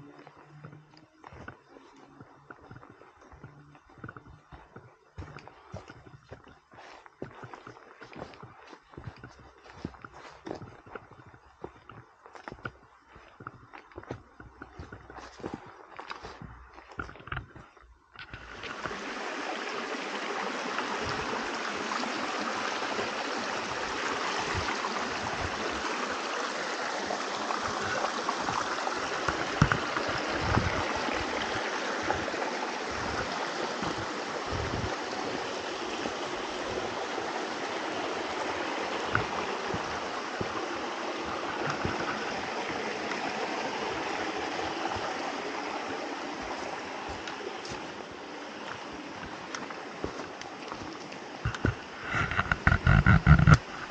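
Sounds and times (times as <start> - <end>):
stream running over rocks: 0.0 - 53.9.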